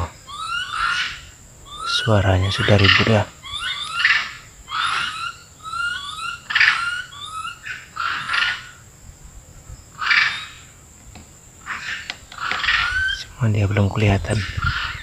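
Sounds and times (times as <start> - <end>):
monkeys calling harshly: 0.0 - 8.9, 9.9 - 10.8, 11.6 - 15.0.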